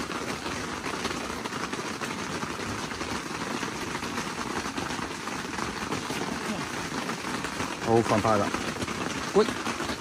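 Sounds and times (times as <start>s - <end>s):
heavy rain on fabric: 0.0s - 10.0s.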